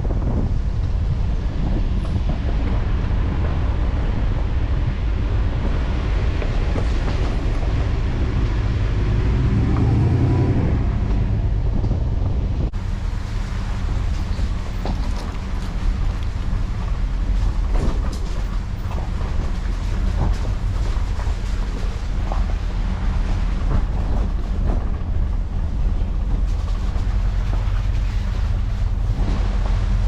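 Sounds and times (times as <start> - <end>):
tyres rumbling on gravel: 0.0 - 30.0.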